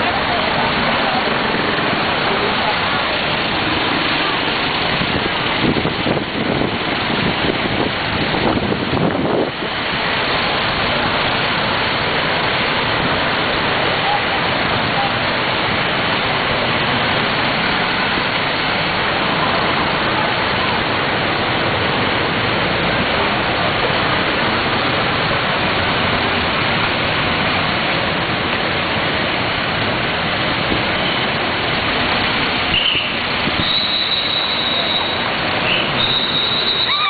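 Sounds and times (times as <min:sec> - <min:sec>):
floodwater rushing: 0:00.0 - 0:37.0
rain: 0:00.0 - 0:37.0.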